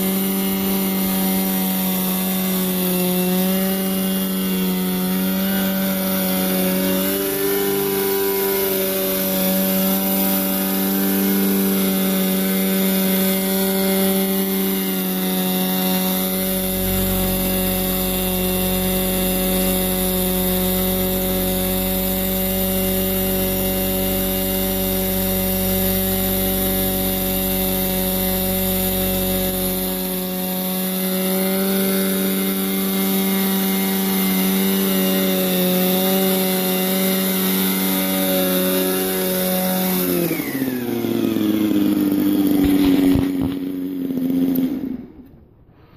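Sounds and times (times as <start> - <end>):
model helicopter engine buzzing: 0.0 - 45.5.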